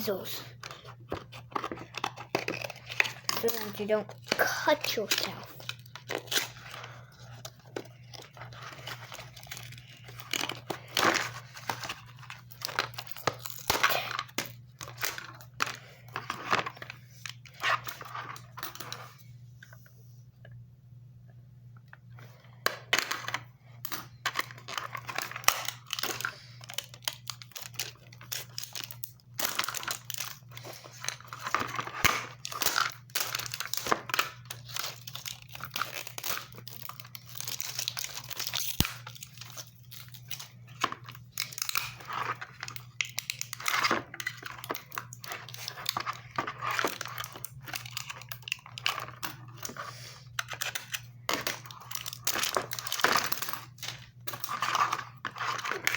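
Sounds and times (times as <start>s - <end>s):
plastic packaging crinkling: 0.0s - 19.2s, 23.8s - 55.9s.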